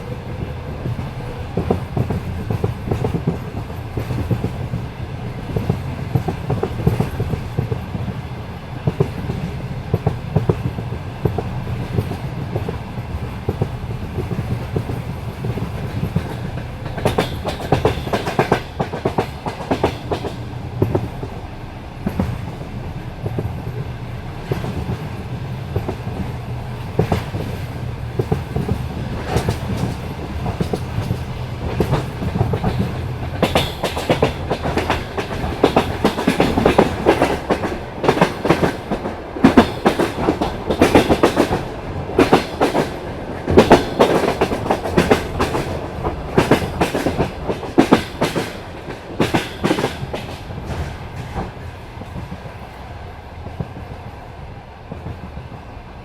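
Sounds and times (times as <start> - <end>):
train wheels clacking over rail joints: 0.0 - 21.4, 22.0 - 52.5
train low rumble: 0.0 - 56.0.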